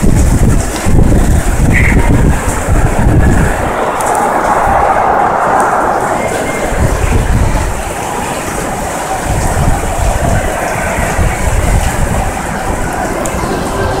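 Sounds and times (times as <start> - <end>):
torrential rain pouring: 0.0 - 14.0
wind buffeting microphone: 0.0 - 14.0.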